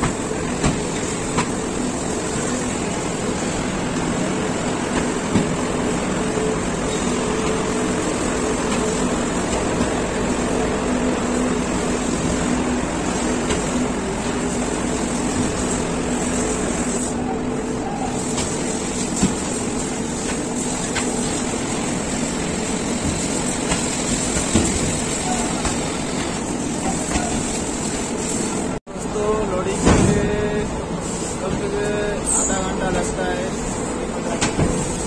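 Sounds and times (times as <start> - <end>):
conveyor machinery humming: 0.0 - 35.0.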